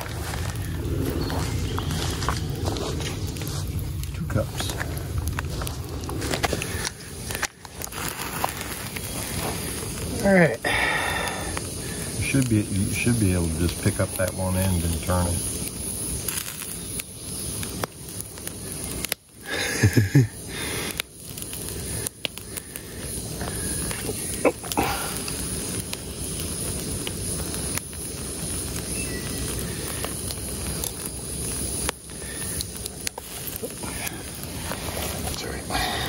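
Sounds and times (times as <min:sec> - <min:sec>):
campfire hissing and crackling: 0:00.0 - 0:36.0.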